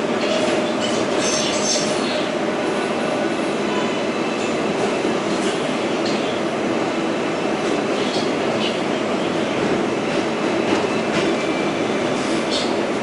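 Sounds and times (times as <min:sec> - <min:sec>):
subway train running noise: 0:00.0 - 0:13.0.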